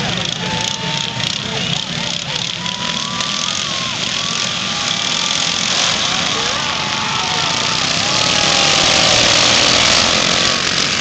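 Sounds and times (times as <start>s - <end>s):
lawnmower engines racing: 0.0s - 11.0s.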